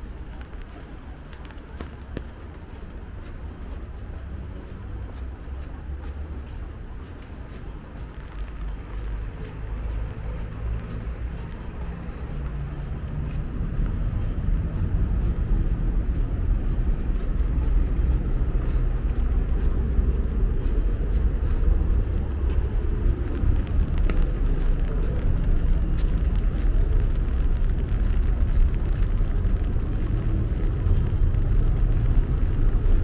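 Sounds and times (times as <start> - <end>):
low traffic rumble: 0.0 - 33.0.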